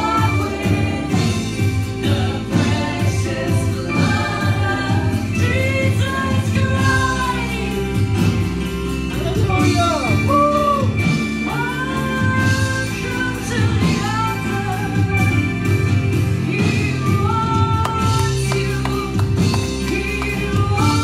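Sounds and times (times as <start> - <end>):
bass: 0.0 - 21.0
drums: 0.0 - 21.0
electric guitars: 0.0 - 21.0
women singing: 0.0 - 21.0.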